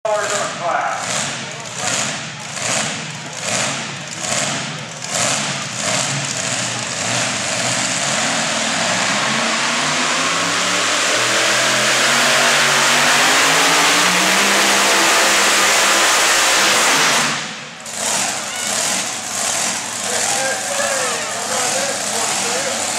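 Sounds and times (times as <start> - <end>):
truck engine revving: 0.1 - 22.9.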